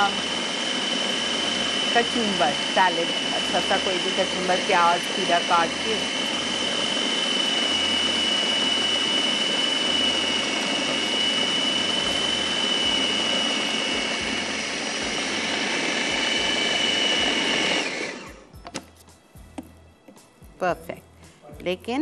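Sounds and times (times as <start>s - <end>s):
food processor whining: 0.0s - 18.6s.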